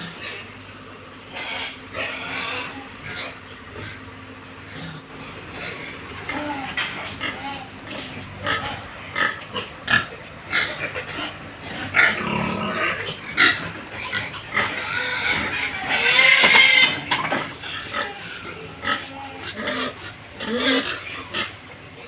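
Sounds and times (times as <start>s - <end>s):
pigs grunting and squealing: 0.0s - 22.0s.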